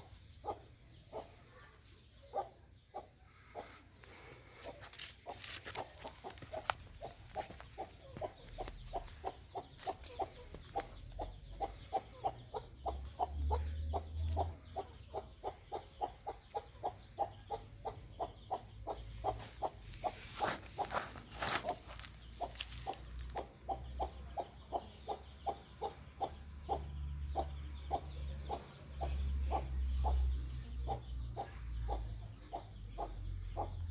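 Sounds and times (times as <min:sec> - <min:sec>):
hen clucking: 0:00.0 - 0:33.9.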